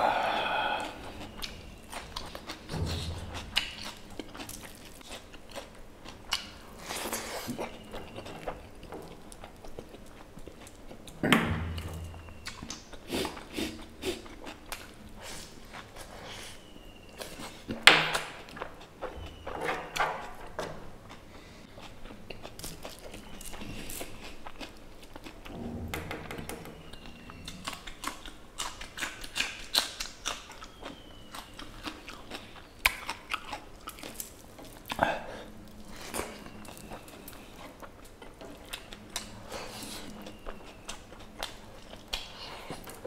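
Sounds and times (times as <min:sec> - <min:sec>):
person chewing with wet smacks: 0:00.1 - 0:19.4, 0:21.0 - 0:25.5, 0:26.9 - 0:43.0.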